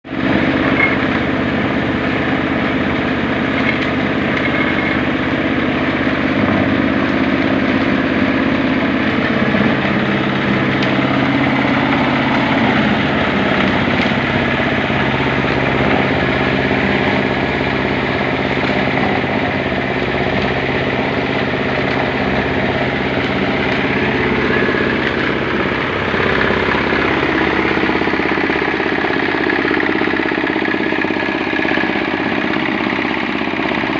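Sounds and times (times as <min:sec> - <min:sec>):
diesel engine running steadily: 0:00.0 - 0:33.9.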